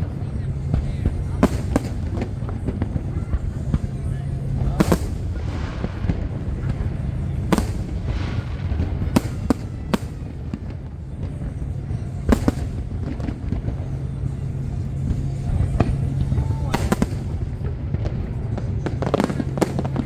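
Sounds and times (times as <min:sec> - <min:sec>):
fireworks bangs: 0:00.0 - 0:20.0
low rumble: 0:00.0 - 0:20.0.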